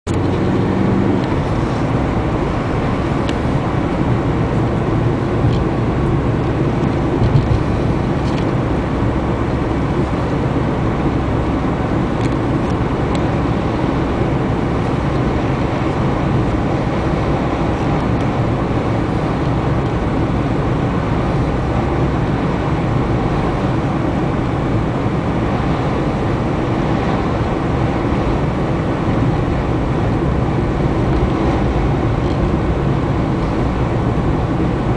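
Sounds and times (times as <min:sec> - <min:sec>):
car road noise: 0:00.0 - 0:34.9.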